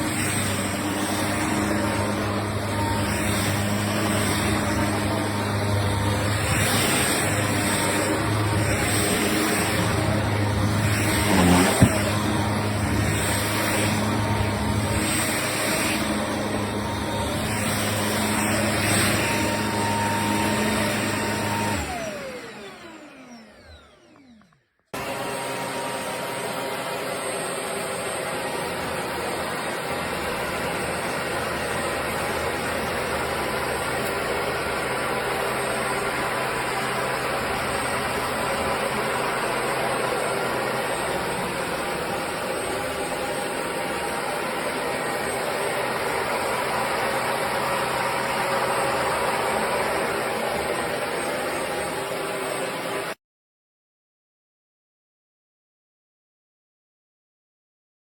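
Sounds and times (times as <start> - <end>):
stick vacuum running: 0.0 - 53.2
vacuum motor spinning down: 0.0 - 53.2.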